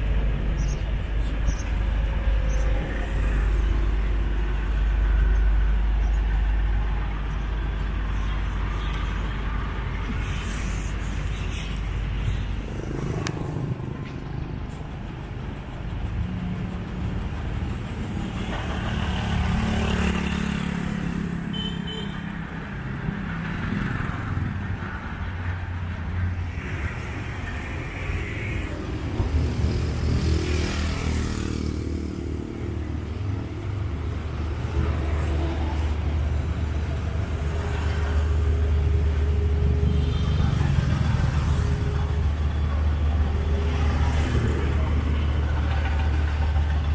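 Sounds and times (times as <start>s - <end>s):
cars passing: 0.0s - 46.9s
motorbikes passing: 9.2s - 46.9s.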